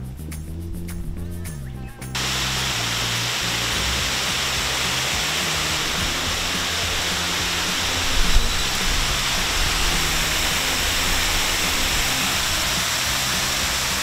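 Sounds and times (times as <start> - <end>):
low held notes: 0.0 - 14.0
loud rushing noise: 2.2 - 14.0.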